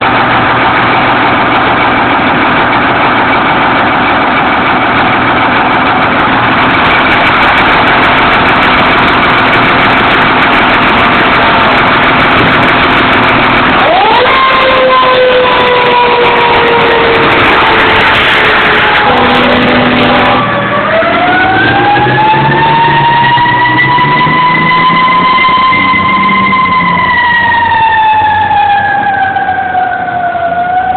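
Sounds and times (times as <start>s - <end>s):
fire engine motor idling: 0.0s - 30.9s.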